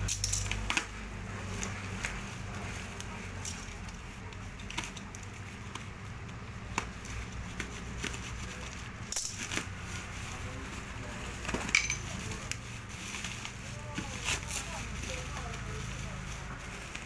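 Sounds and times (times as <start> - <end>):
parcel rustling and tapping: 0.0 - 17.0.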